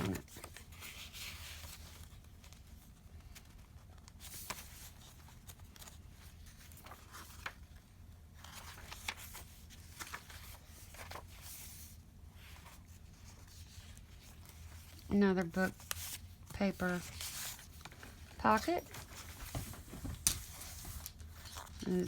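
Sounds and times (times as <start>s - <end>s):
paper rustling: 0.0s - 7.8s, 8.4s - 22.0s.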